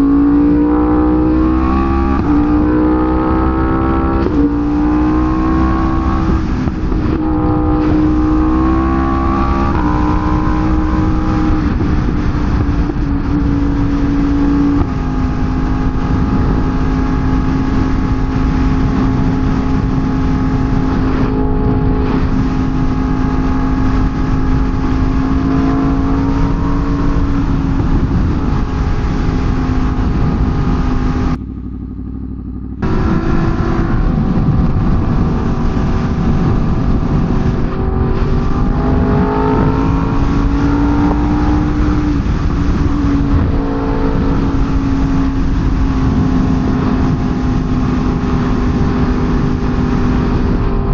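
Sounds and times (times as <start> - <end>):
wind noise rushing: 0.0 - 31.8, 32.8 - 50.9
motorcycle engine shifting gears: 0.0 - 50.9.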